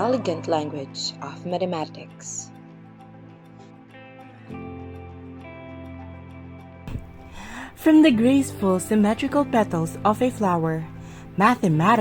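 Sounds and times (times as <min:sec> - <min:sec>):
soft background music chords: 0:00.0 - 0:12.0.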